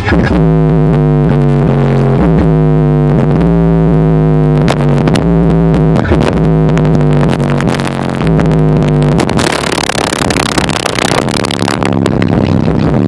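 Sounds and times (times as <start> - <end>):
bass-heavy electronic music: 0.0 - 13.0.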